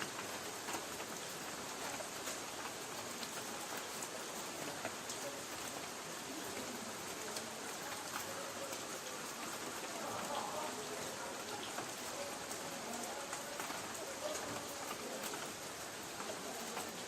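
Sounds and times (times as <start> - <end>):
rain on a tin roof: 0.0 - 17.0.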